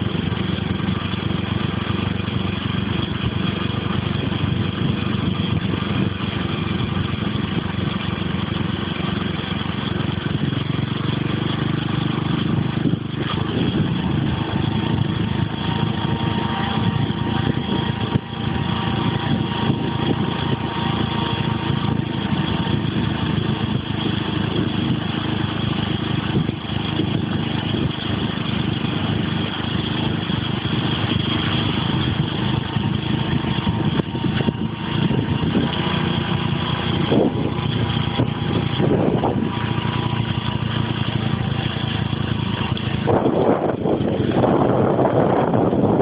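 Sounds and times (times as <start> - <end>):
wind buffeting microphone: 0.0 - 8.9, 9.9 - 46.0
road noise: 0.0 - 46.0
vehicle engine running: 0.0 - 46.0.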